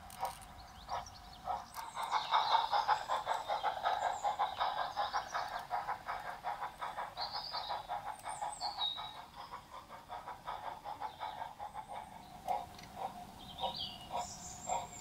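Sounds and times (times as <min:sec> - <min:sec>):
model steam train pulsing: 0:00.0 - 0:15.0
bird chirping: 0:00.2 - 0:15.0.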